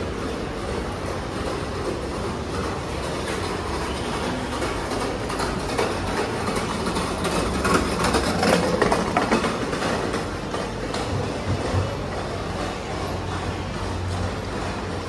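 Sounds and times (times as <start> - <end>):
shopping mall rumble and hubbub: 0.0 - 15.0.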